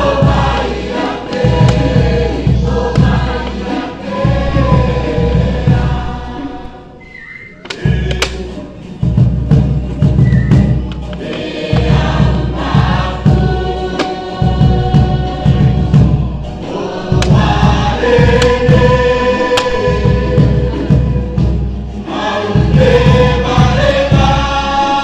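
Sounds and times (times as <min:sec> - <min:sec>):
heavy drum beat: 0:00.0 - 0:06.3, 0:07.8 - 0:24.8
chorus singing: 0:00.0 - 0:25.0.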